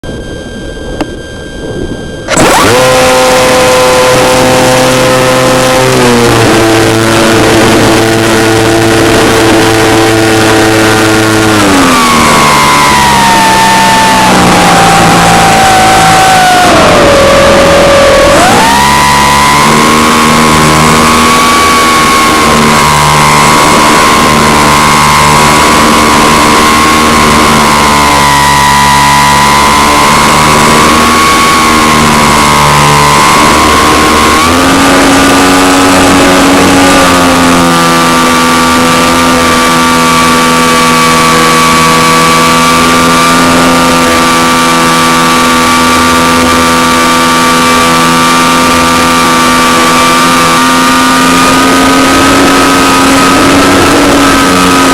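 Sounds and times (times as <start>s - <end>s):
model airplane engine running: 0.0s - 54.9s.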